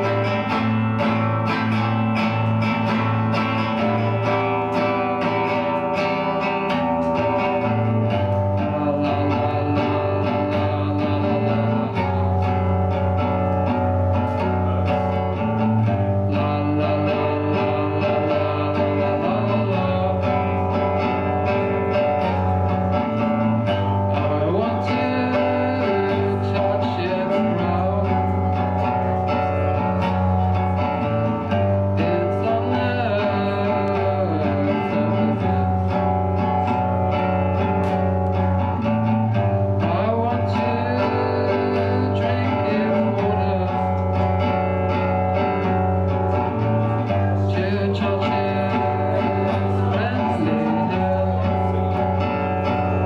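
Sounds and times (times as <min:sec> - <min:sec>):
man singing: 0:00.0 - 0:38.1, 0:38.8 - 0:53.0
live band music: 0:00.0 - 0:53.0.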